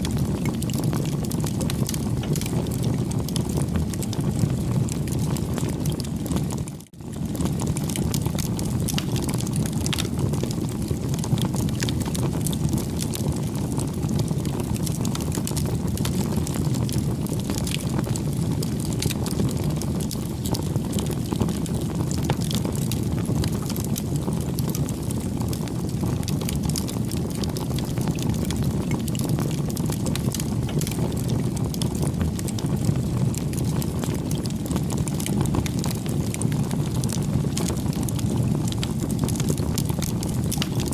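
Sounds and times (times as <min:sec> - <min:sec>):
burning wood crackling and popping: 0:00.0 - 0:40.9
rush of campfire flames: 0:00.0 - 0:40.9.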